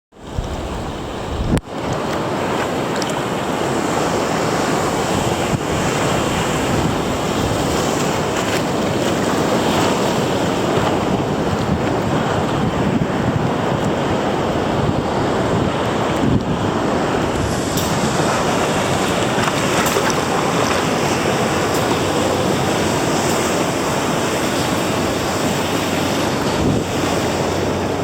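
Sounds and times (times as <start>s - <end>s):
ocean surf rushing: 0.1s - 28.0s
wind buffeting microphone: 0.1s - 28.0s.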